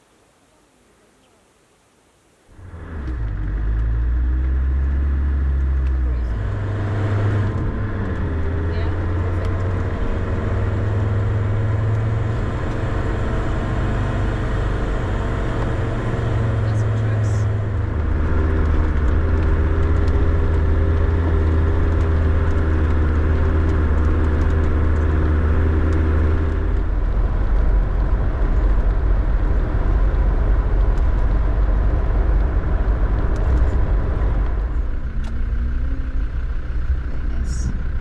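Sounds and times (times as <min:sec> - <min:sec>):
car engine running: 0:02.5 - 0:38.0
low even rumble: 0:02.5 - 0:38.0.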